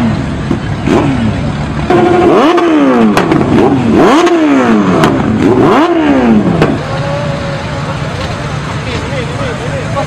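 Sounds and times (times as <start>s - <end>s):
pickup truck engine revving: 0.0s - 8.9s.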